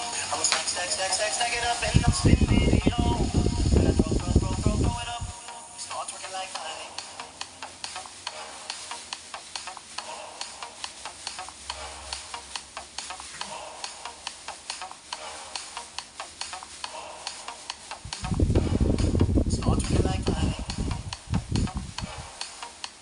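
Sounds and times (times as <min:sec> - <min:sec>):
plastic skirt and tinsel rustling: 0:00.0 - 0:23.0.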